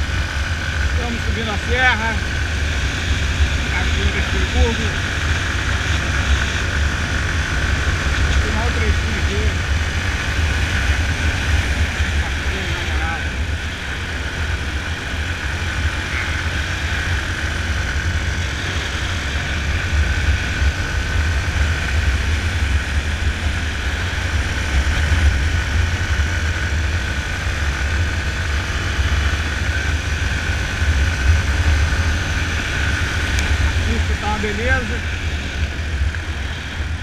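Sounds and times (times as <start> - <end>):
motorcycle engine running under load: 0.0 - 37.0
wind rumbling on microphone: 0.0 - 37.0.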